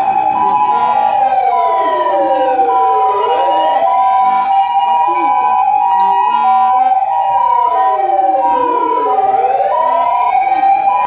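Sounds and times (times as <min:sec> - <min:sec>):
two-tone hi-lo siren: 0:00.0 - 0:11.0
wailing siren: 0:00.0 - 0:11.0.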